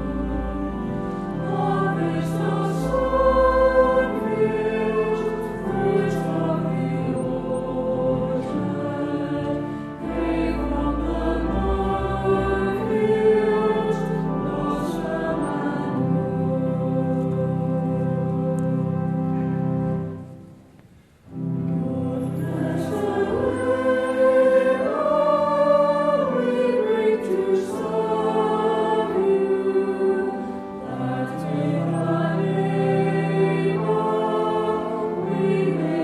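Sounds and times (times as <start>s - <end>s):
choir singing: 0.0s - 20.4s, 21.3s - 36.0s
organ chords: 0.0s - 36.0s.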